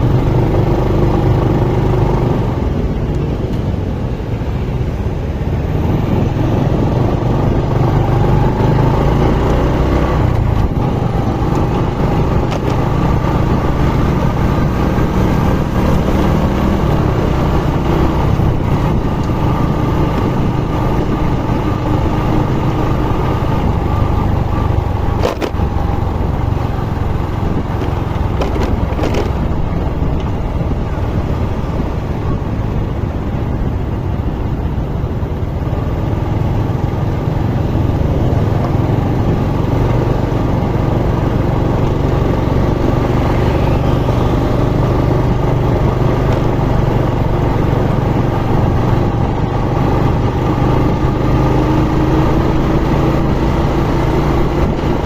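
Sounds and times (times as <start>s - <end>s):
motorcycle engine running: 0.0s - 4.2s, 5.5s - 55.0s.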